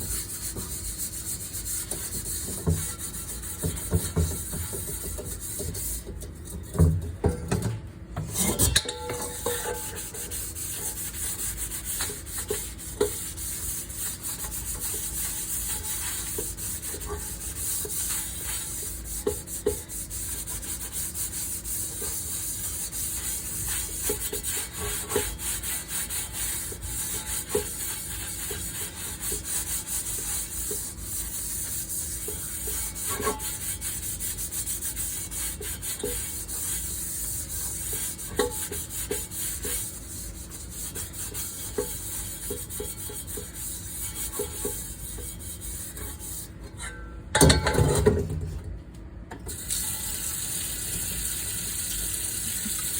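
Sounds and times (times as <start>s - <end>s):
scouring pad scrubbing pan: 0.0s - 6.8s, 8.4s - 46.6s.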